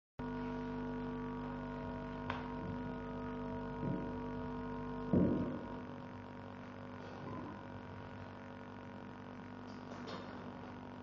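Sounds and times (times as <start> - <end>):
amplifier mains hum: 0.2 - 11.0.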